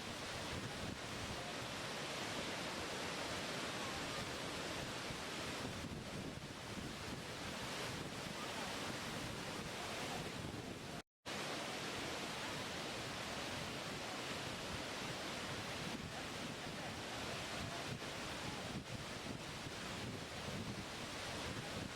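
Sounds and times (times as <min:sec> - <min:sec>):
waterfall roaring: 0:00.0 - 0:06.3, 0:06.9 - 0:21.9.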